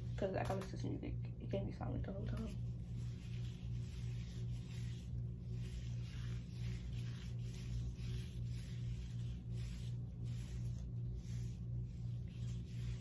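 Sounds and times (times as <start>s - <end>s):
gloved hands squishing hair: 2.1s - 13.0s.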